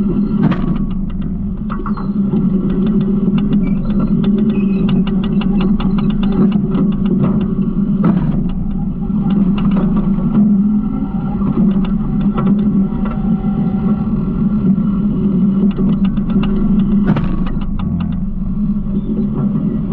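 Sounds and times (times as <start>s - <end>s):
garbage truck engine running: 0.0s - 19.9s.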